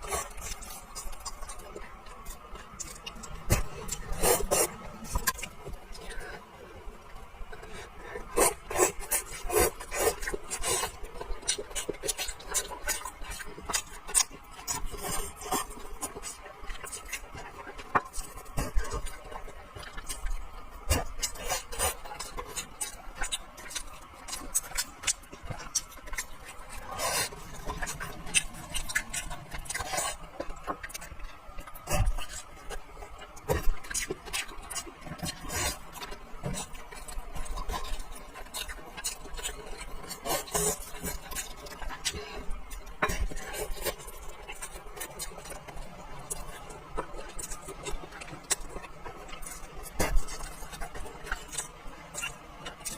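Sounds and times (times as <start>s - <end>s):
person chewing: 0.0s - 6.4s, 7.5s - 52.9s.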